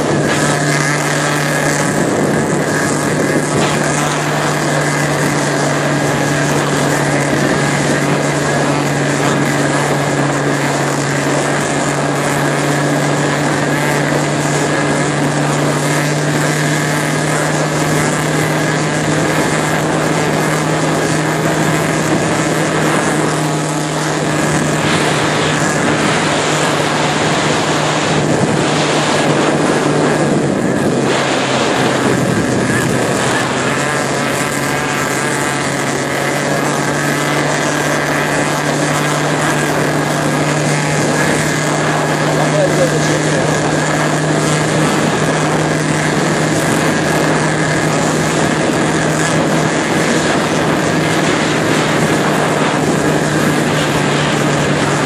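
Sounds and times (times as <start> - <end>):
motorboat engine running: 0.0 - 55.0
water rushing past hull: 0.0 - 55.0.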